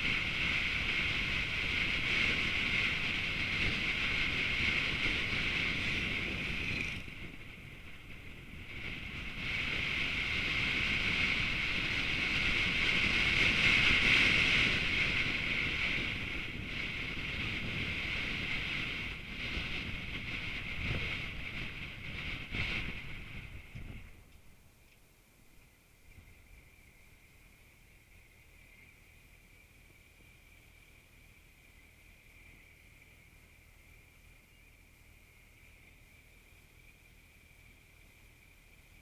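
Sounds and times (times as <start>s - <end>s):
vehicle wind and road noise: 0.0s - 39.0s.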